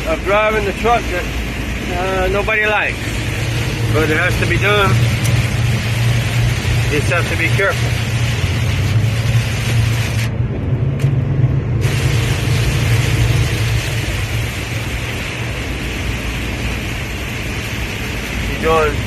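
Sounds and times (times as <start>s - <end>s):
rain and road spray hiss: 0.0s - 10.4s, 11.7s - 19.0s
engine drone: 0.0s - 19.0s.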